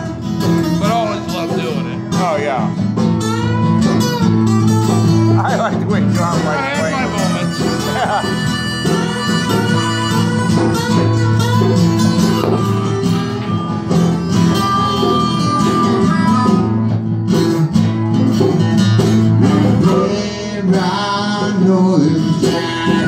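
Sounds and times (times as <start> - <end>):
harmonica: 0.0 - 23.0
strummed guitars: 0.0 - 23.0.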